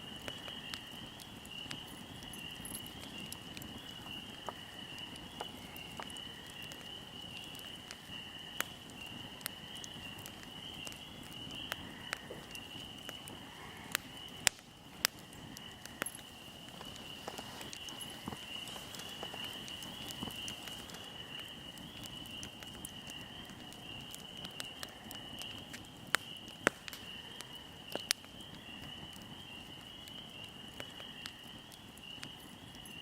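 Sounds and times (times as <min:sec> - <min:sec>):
fire crackling and popping: 0:00.0 - 0:33.0.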